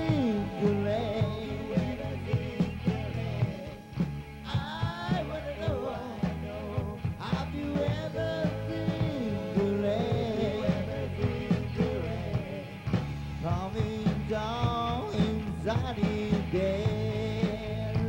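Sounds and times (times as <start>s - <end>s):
rock band music: 0.0s - 18.0s.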